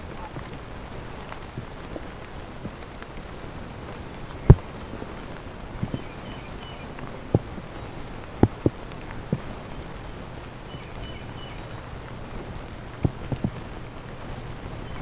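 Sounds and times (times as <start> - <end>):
steady rain in woods: 0.0 - 15.0.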